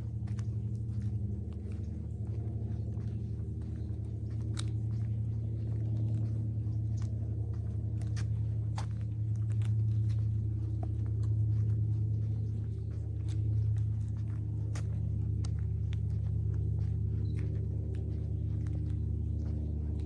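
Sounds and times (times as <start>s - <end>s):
footsteps crunching: 0.0s - 20.0s
steady low hum: 0.0s - 20.0s.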